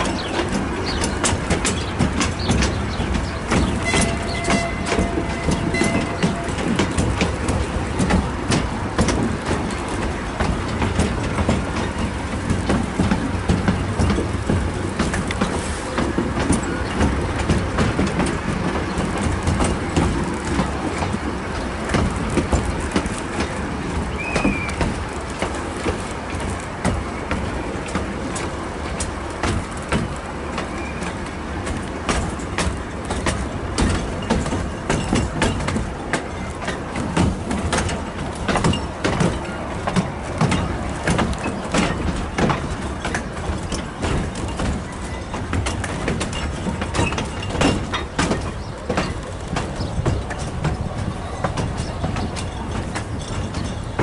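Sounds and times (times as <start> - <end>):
train rumbling along track: 0.0 - 54.0
wheels clicking on rails: 0.0 - 54.0.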